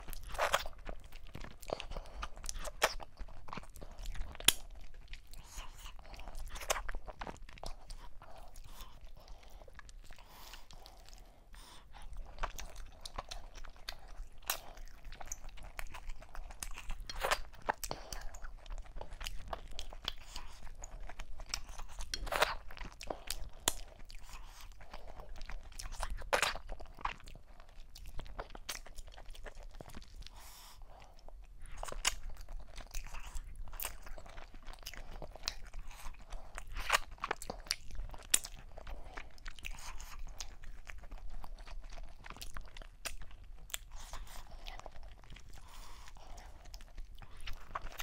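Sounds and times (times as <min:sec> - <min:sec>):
woman chewing food: 0:00.0 - 0:48.0.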